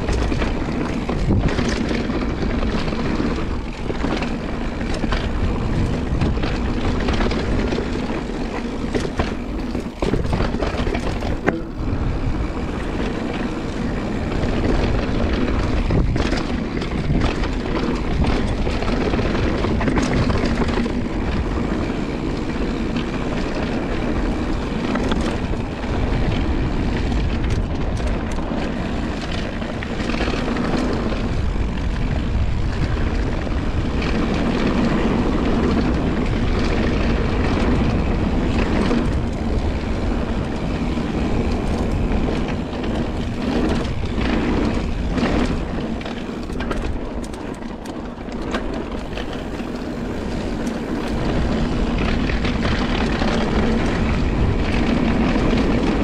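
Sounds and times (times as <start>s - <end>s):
bike clicks and rattles: 0.0s - 56.0s
bike tyre rumble on trail: 0.0s - 56.0s
wind on microphone: 0.0s - 56.0s.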